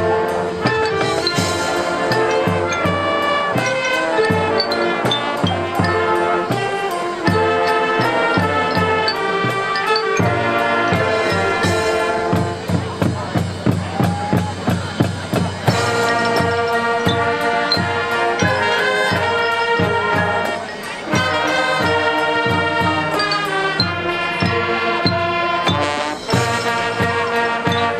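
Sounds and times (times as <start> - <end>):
marching band playing: 0.0 - 27.9
steady drum beats: 0.0 - 27.9.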